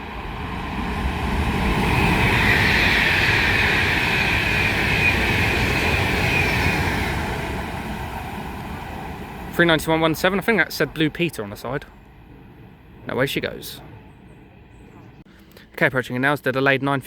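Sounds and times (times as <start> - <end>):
electric train passing at speed: 0.0 - 15.2.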